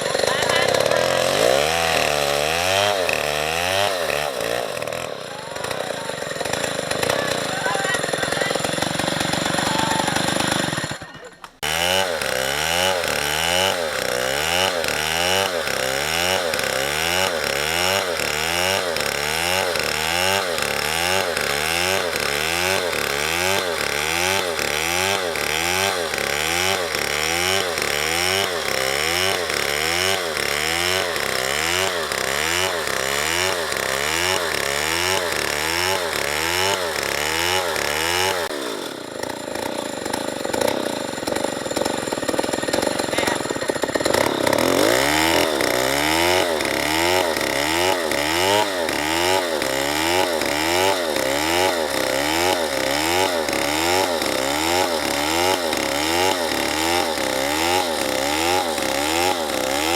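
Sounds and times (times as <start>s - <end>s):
chainsaw running: 0.0s - 59.9s.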